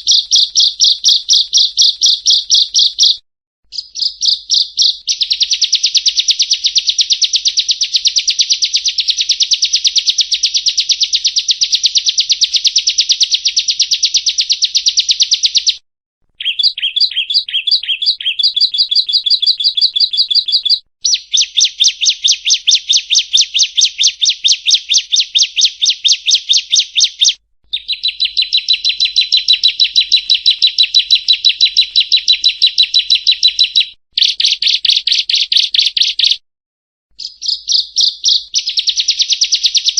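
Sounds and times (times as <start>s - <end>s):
bird singing rapid trills: 0.0s - 15.8s, 16.4s - 36.4s, 37.2s - 39.9s.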